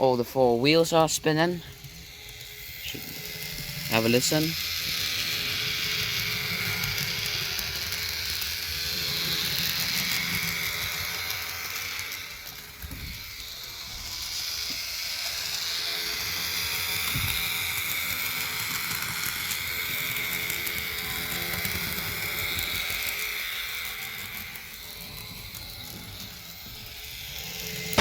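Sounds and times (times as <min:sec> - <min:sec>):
model locomotive motor whirring: 0:00.0 - 0:28.0.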